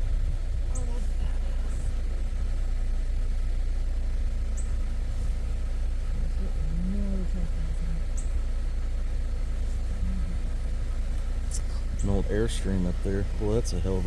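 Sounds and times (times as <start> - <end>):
engine and road rumble inside car: 0.0 - 14.0.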